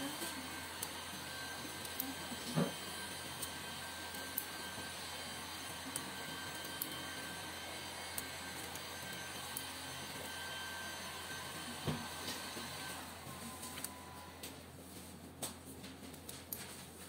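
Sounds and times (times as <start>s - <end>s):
fan-like machine hum: 0.0s - 17.0s.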